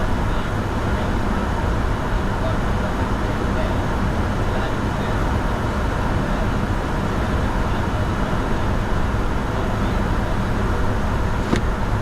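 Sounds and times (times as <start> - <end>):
jet engines humming: 0.0 - 12.0.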